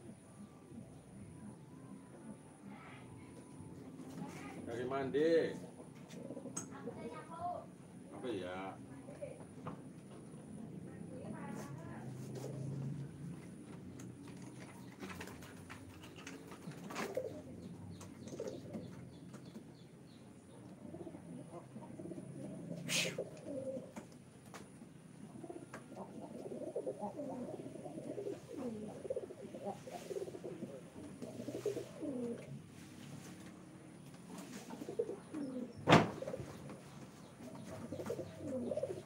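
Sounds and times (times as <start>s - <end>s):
pigeons cooing: 4.2s - 8.4s, 10.1s - 32.7s, 33.6s - 39.0s.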